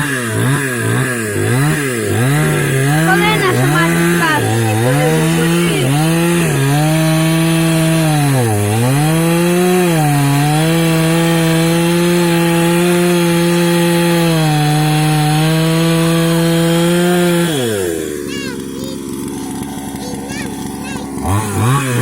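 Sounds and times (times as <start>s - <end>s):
chainsaw cutting firewood: 0.0s - 22.0s.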